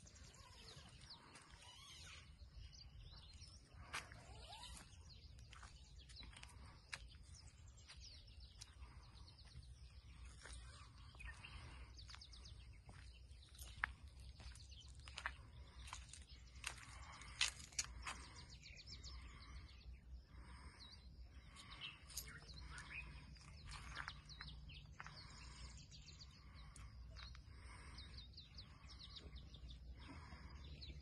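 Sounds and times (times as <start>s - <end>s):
birds chirping and whistling: 0.0s - 31.0s.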